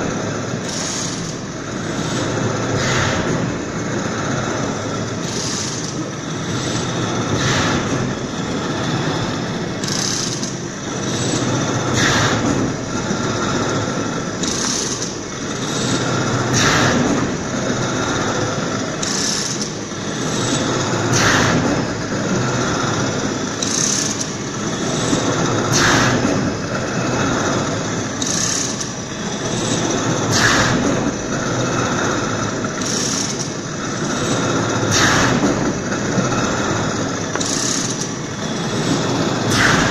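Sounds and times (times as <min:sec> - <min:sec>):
veneer slicing machine running: 0:00.0 - 0:39.9.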